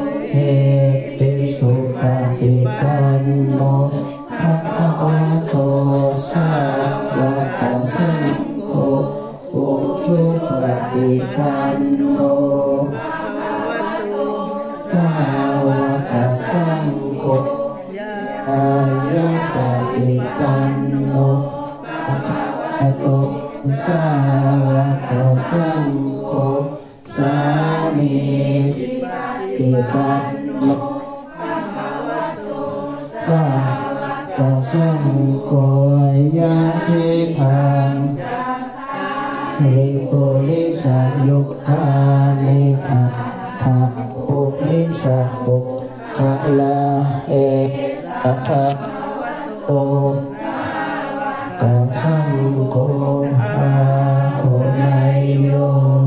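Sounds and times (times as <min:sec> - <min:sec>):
group chanting in unison: 0:00.0 - 0:56.0.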